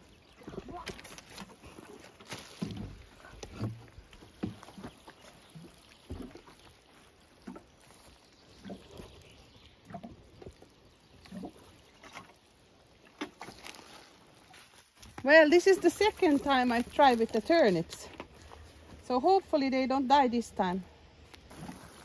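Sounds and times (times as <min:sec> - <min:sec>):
water splashing from watering can: 0:00.0 - 0:19.0, 0:21.3 - 0:22.0.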